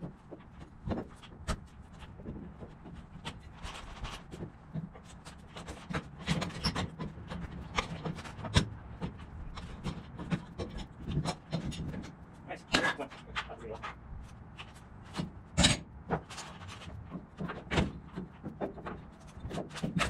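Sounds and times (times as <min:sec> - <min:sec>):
knocks and scraping of wood: 0:00.0 - 0:20.0.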